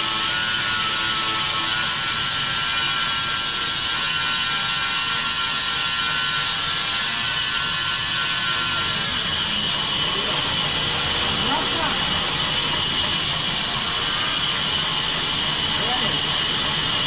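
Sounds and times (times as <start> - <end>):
band saw cutting log: 0.0 - 17.0.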